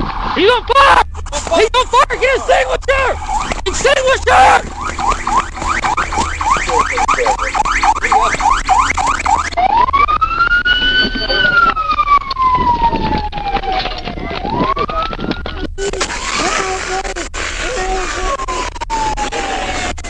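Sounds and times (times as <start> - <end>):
police siren yelp and wail: 0.0 - 20.0.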